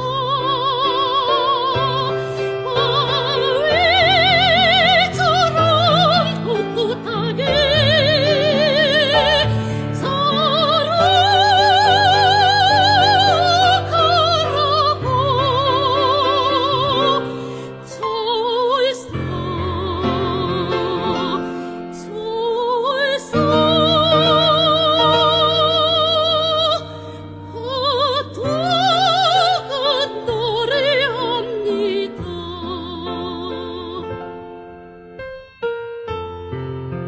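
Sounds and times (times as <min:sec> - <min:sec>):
soprano singing: 0:00.0 - 0:34.9
piano accompaniment: 0:00.0 - 0:37.0.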